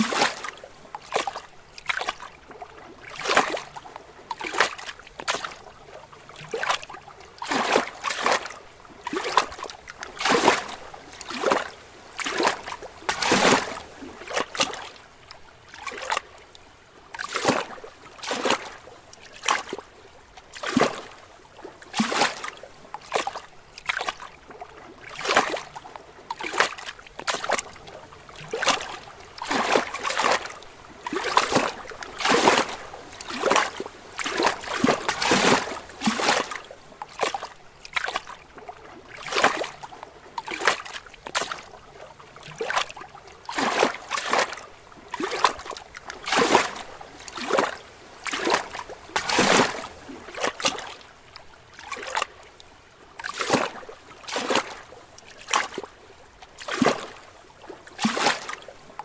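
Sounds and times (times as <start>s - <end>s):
lake waves lapping against rocks: 0.0s - 59.0s.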